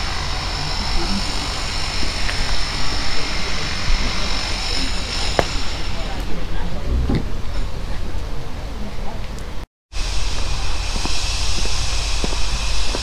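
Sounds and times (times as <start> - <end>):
construction machinery noise: 0.0 - 13.0
low rumble: 0.0 - 13.0.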